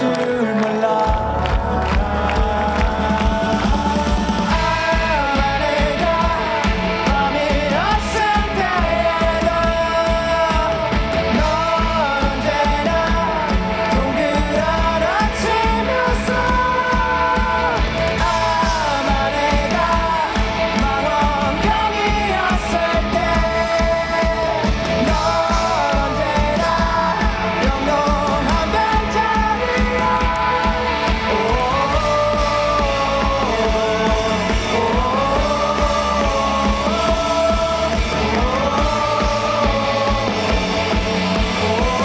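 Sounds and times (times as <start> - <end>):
drums: 0.0 - 42.0
electric guitar: 0.0 - 42.0
man singing: 0.0 - 42.0.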